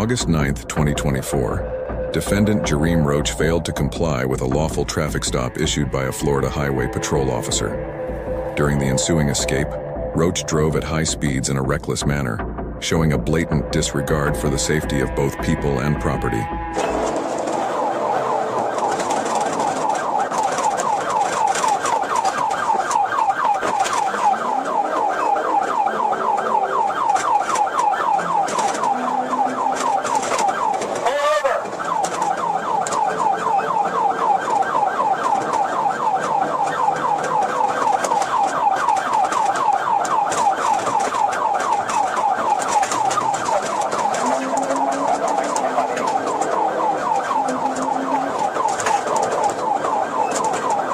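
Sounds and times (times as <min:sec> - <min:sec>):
police siren yelping: 0:00.0 - 0:50.9.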